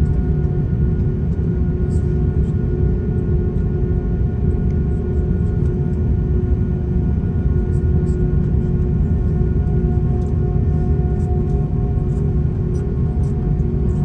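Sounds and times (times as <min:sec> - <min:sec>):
aircraft cabin rumble and hum: 0:00.0 - 0:14.0.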